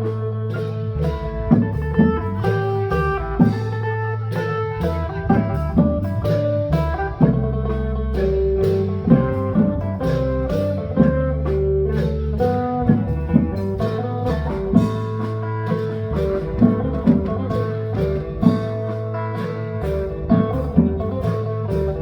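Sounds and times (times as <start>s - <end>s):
bass line: 0.0s - 22.0s
drum beats: 0.0s - 22.0s
plucked string melody: 0.0s - 22.0s.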